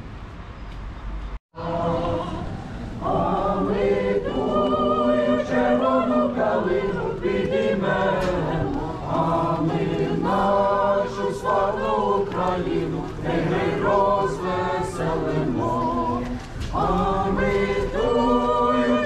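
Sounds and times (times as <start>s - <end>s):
mixed choir singing unaccompanied: 1.5s - 19.0s.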